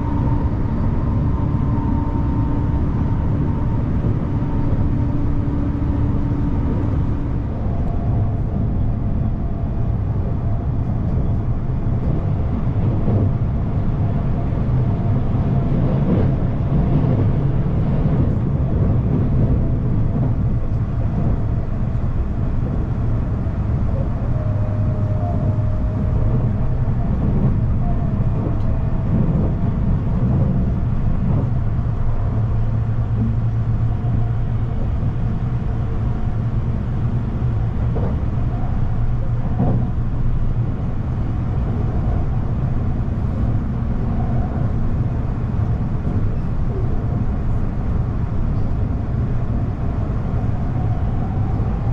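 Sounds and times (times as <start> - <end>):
train wheels rumbling: 0.0 - 51.9.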